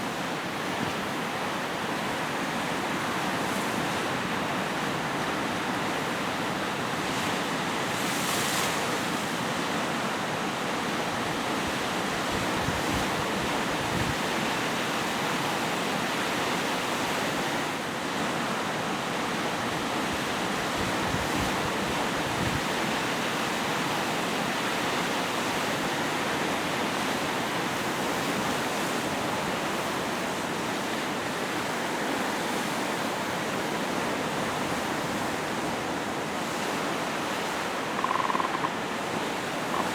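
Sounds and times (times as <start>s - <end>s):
waves washing ashore: 0.0s - 39.9s.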